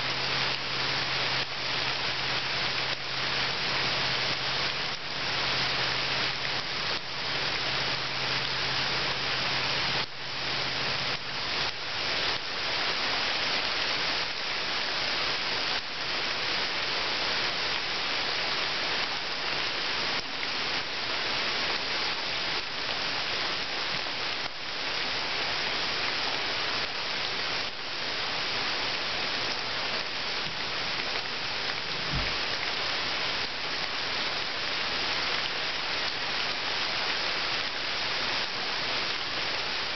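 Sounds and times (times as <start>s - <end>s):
rain falling into puddle: 0.0s - 39.9s.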